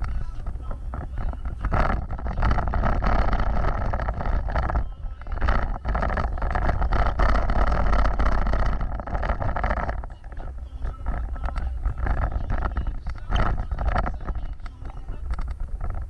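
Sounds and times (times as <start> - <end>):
knocks and rattles: 0.0 - 16.0
vehicle engine and tyres rumbling: 0.0 - 16.0
wind noise: 0.0 - 16.0.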